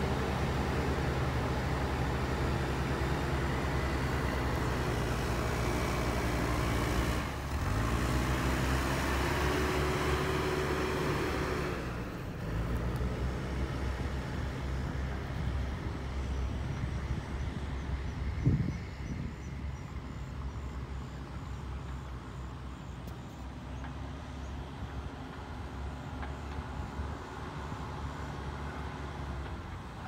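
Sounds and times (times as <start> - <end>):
diesel engine running and revving: 0.0 - 30.0.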